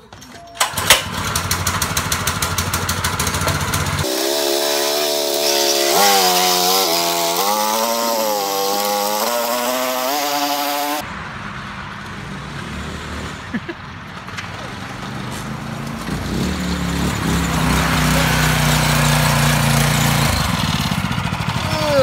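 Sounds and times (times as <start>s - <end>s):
small engine puttering and revving: 0.6s - 11.0s, 14.4s - 22.0s.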